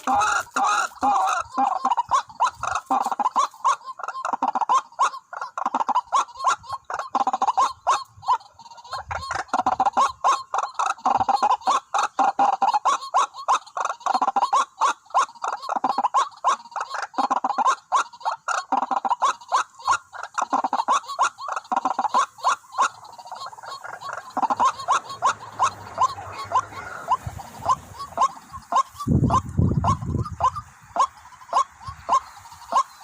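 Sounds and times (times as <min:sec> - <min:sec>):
waterhens clucking calls: 0:00.0 - 0:33.0.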